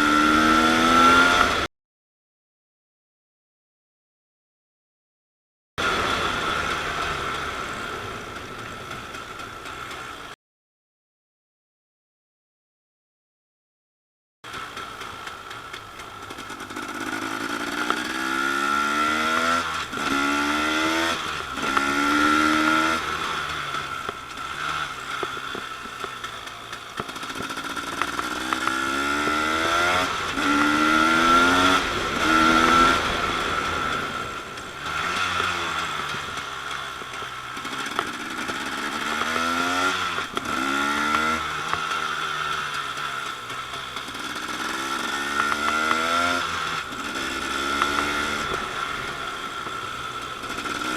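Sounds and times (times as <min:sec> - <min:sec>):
two-stroke motorcycle engine accelerating: 0:00.0 - 0:01.7, 0:05.8 - 0:10.4, 0:14.4 - 0:50.9.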